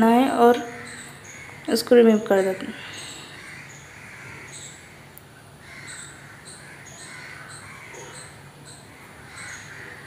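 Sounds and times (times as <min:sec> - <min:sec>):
birds calling roughly: 0:00.0 - 0:10.0
low steady hum: 0:00.0 - 0:10.0.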